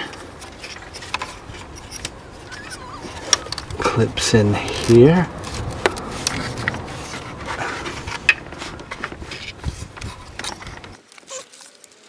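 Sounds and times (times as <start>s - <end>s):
low background rumble: 0.0s - 11.0s
plastic parts clicking and rubbing: 0.0s - 11.9s.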